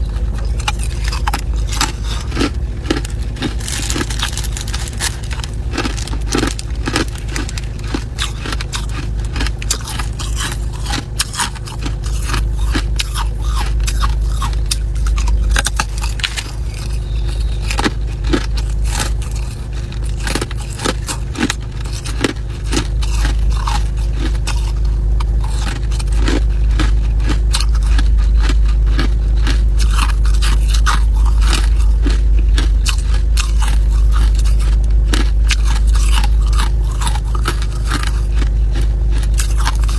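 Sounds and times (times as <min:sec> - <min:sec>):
ice being chewed: 0:00.0 - 0:39.9
steady low rumble: 0:00.0 - 0:39.9.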